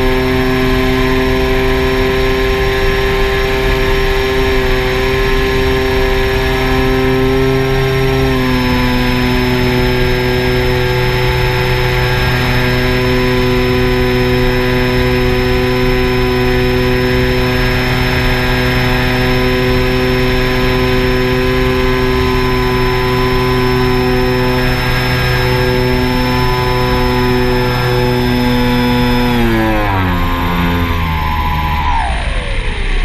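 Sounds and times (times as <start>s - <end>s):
model aircraft propeller whine: 0.0s - 33.0s.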